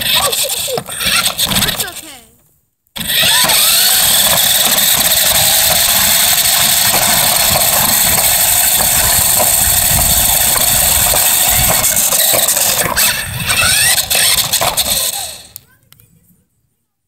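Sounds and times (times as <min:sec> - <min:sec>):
rc car motor and drivetrain: 0:00.0 - 0:02.2, 0:03.0 - 0:15.7
wheels rumbling on concrete: 0:00.0 - 0:02.4, 0:03.0 - 0:15.8.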